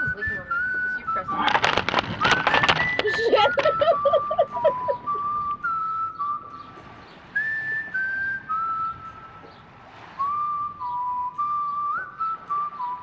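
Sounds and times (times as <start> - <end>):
person whistling a tune: 0.0 - 9.6, 10.2 - 13.0.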